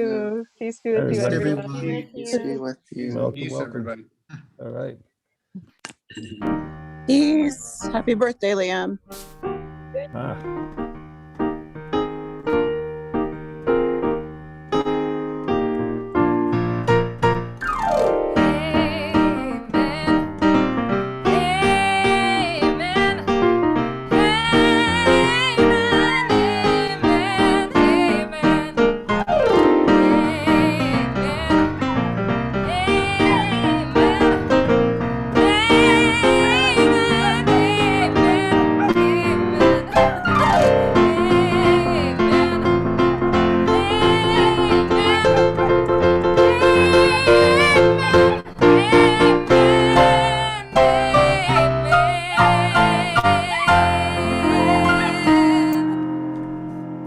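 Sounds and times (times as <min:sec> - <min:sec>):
piano instrumental music: 0:06.1 - 0:57.0.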